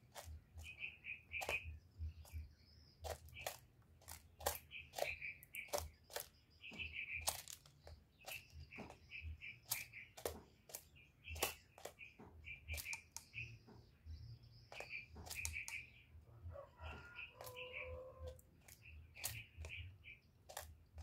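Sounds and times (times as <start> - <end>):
dove preening clicks: 0.0 - 13.6, 14.7 - 15.9, 16.8 - 21.0.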